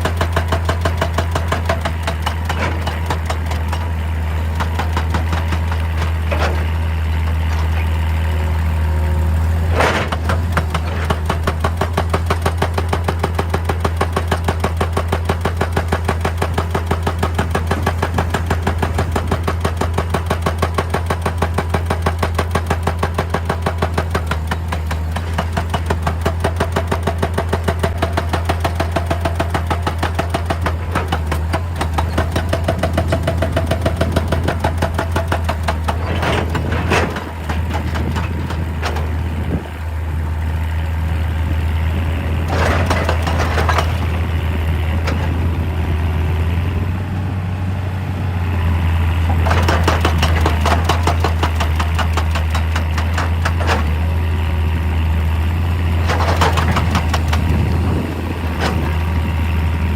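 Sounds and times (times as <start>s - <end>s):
hydraulic hammer pounding rock: 0.0s - 40.4s, 41.9s - 46.7s, 49.1s - 54.4s, 55.4s - 59.9s
diesel engine running: 0.0s - 59.9s.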